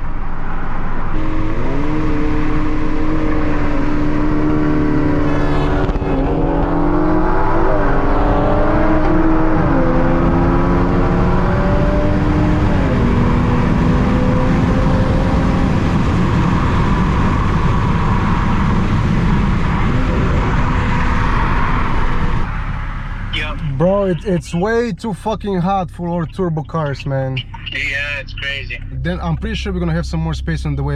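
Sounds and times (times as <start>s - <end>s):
car engine accelerating: 0.0s - 30.9s
wind and road noise: 0.0s - 30.9s.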